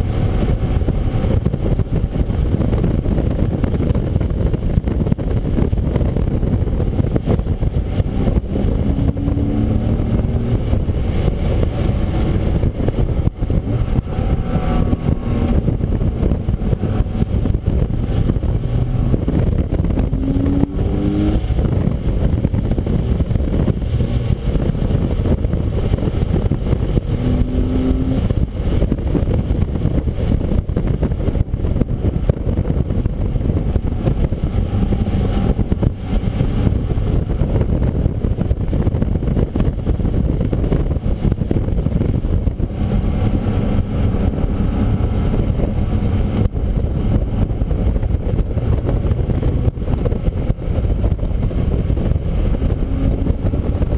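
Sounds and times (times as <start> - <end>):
car engine road and wind rumble: 0.0 - 53.9.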